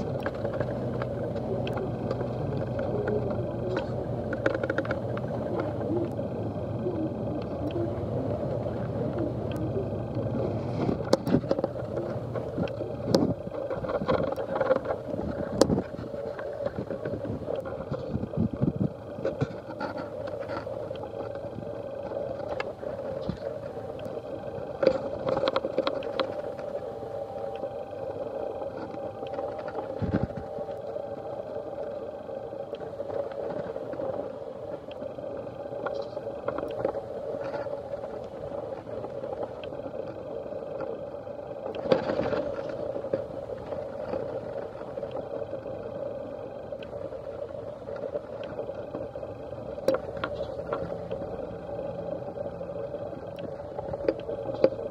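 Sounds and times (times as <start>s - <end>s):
bus engine and tyres drone: 0.0s - 54.9s.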